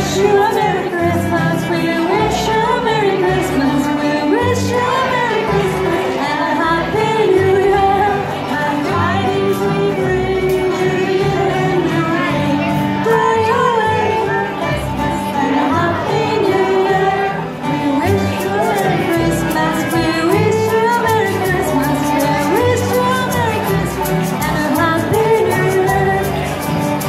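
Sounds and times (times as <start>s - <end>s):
acoustic guitar: 0.0s - 27.0s
banjo: 0.0s - 27.0s
bowed fiddle: 0.0s - 27.0s
upright bass: 0.0s - 27.0s
women singing: 0.0s - 27.0s.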